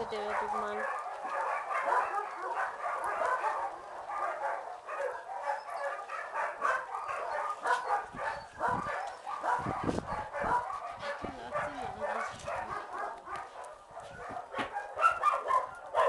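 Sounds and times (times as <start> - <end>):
many dogs barking: 0.0 - 16.0.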